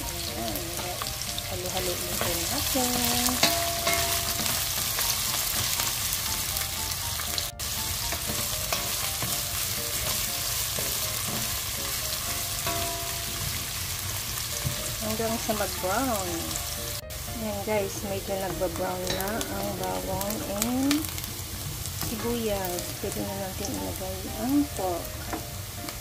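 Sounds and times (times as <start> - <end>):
onion and garlic sizzling in oil: 0.0 - 26.0.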